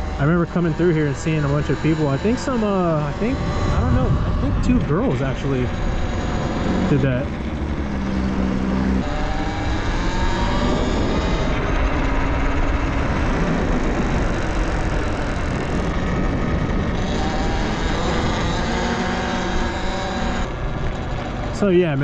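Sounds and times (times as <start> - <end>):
electric motor whine: 0.0 - 22.0
wind rushing over camera: 1.8 - 21.6.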